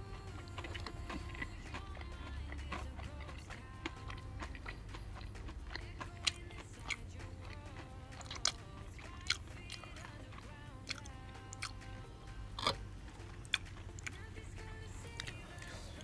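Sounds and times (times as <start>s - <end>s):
chewing crispy fried chicken: 0.0s - 16.0s
soft background music: 0.0s - 16.0s.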